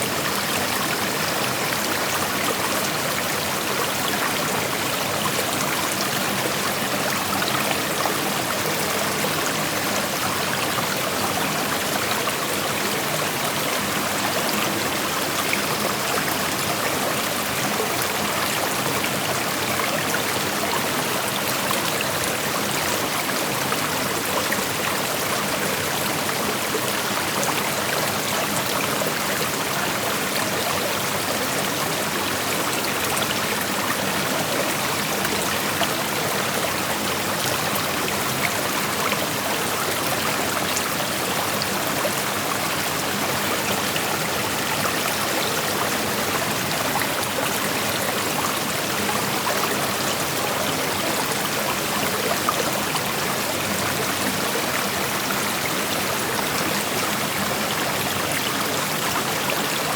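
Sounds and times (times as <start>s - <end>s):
creek flowing over rocks: 0.0s - 59.9s.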